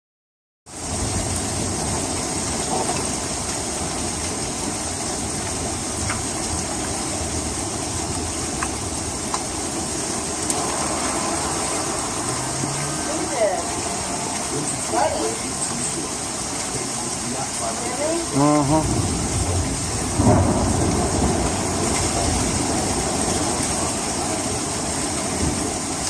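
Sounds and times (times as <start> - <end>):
hail and heavy rain: 0.7 - 26.0
sharp hail hits: 0.8 - 26.0.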